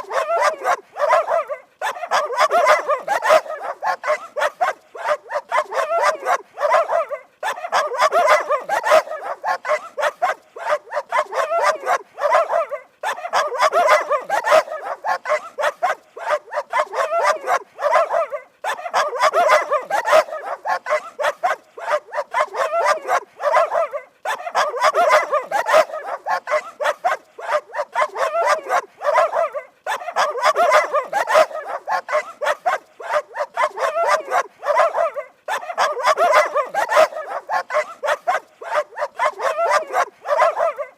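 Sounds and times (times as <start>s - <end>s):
dog barking rapidly: 0.0s - 40.9s.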